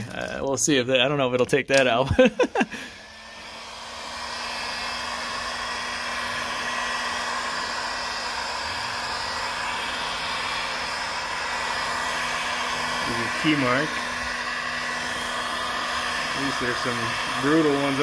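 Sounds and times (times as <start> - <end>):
heat gun blowing hot air: 1.7 - 18.0.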